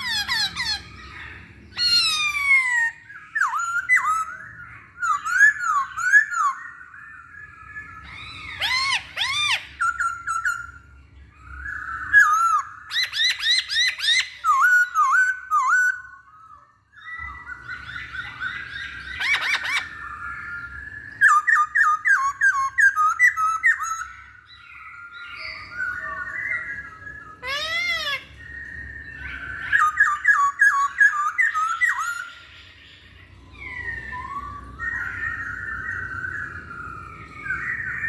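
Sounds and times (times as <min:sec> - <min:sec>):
bird singing whistled phrases: 0:00.0 - 0:38.0.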